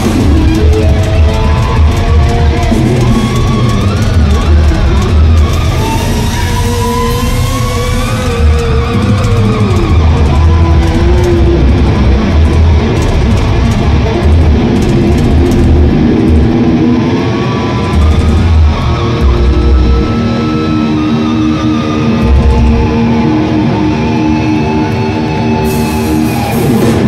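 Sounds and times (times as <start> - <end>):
live metal band playing: 0.0 - 27.0.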